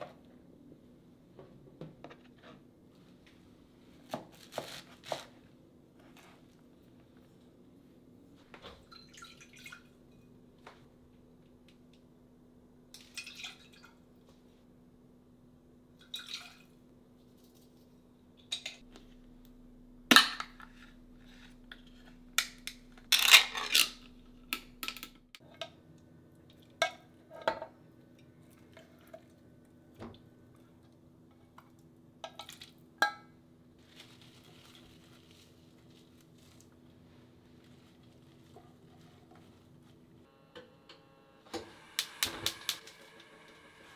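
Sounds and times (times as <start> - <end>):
low steady hum: 5.4 - 43.9.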